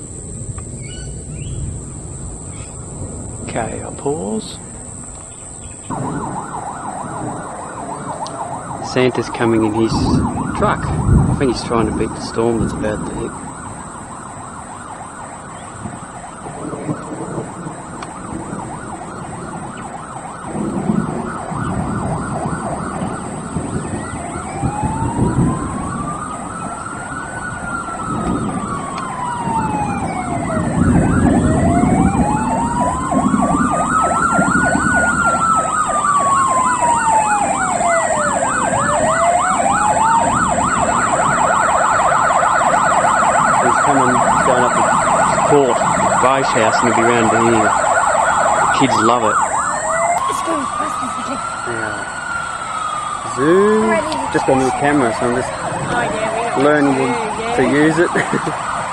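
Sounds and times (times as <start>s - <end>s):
fast yelping siren: 0.0s - 58.9s
slow wailing siren: 0.0s - 58.9s.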